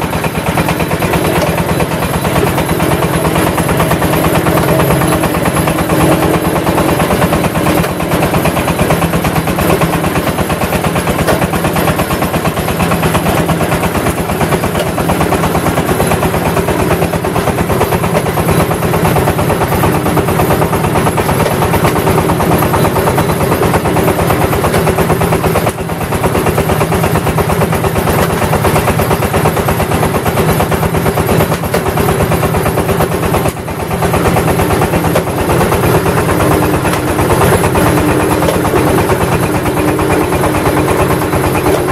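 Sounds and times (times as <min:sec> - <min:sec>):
brick press engine chugging: 0:00.0 - 0:41.9.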